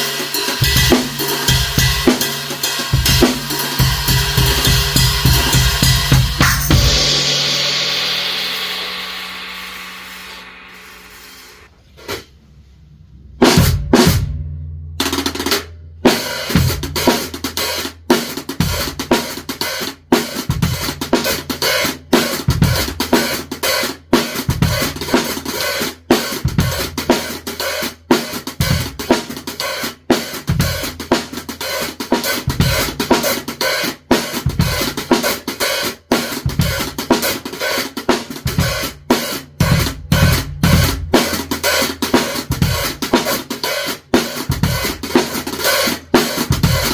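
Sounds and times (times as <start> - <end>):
drum kit groove: 0.0 - 12.4, 13.2 - 46.9.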